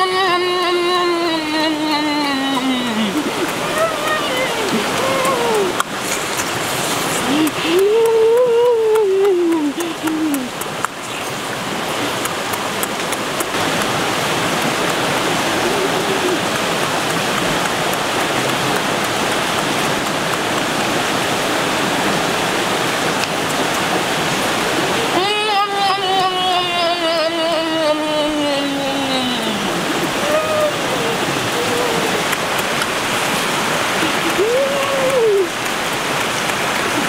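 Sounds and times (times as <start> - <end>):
fast-flowing rocky stream: 0.0 - 37.0.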